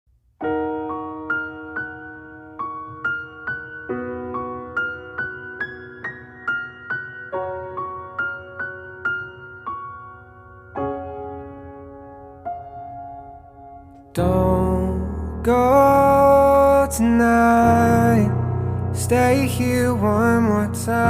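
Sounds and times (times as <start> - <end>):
soft electric piano: 0.4 - 21.0.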